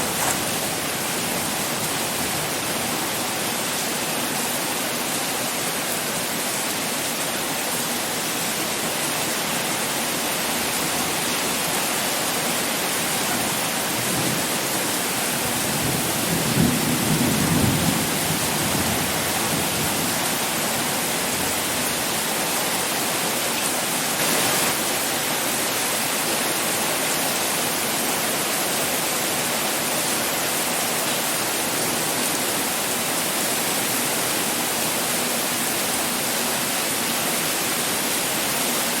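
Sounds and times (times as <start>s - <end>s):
pouring rain: 0.0s - 39.0s.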